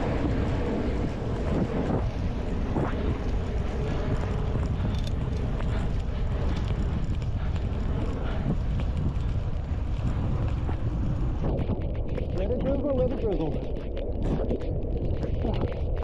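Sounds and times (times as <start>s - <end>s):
bicycle tyre road noise: 0.0s - 16.0s
wind rushing over microphone: 0.0s - 16.0s.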